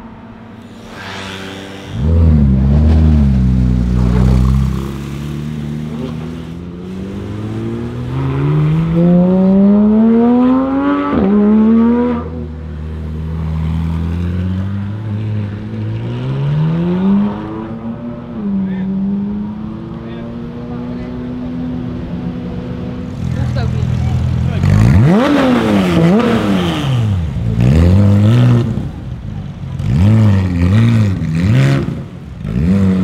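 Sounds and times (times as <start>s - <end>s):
sports car engine revving: 0.8s - 12.5s, 13.7s - 29.0s, 29.7s - 33.0s.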